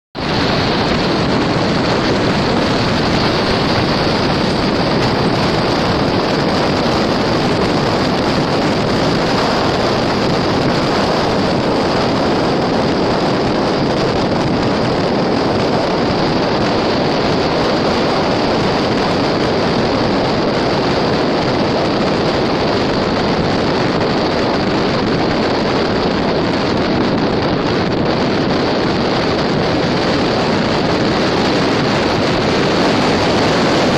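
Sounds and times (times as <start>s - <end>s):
tyre and wind noise: 0.2s - 33.9s.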